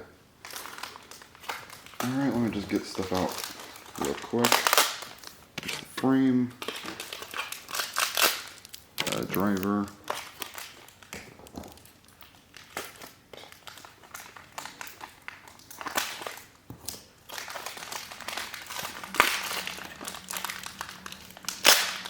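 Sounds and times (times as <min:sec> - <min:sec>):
plastic packaging crinkling: 0:00.4 - 0:22.0.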